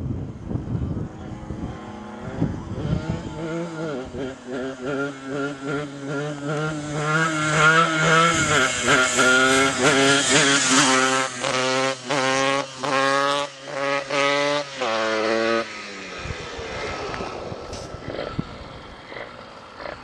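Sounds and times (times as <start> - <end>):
two-stroke motorcycle engine revving: 0.5 - 20.0.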